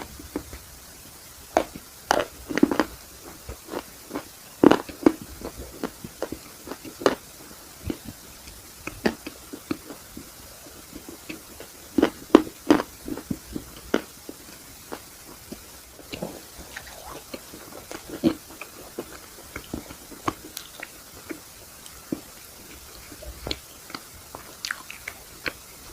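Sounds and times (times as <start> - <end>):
mouth and chewing noises: 1.5 - 25.9.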